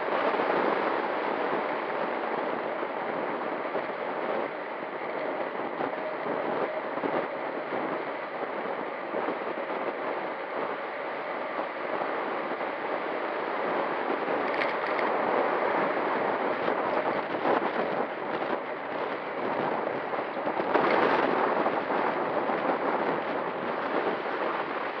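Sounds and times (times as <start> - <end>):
road noise: 0.0 - 25.0
wind rushing over microphone: 0.0 - 25.0.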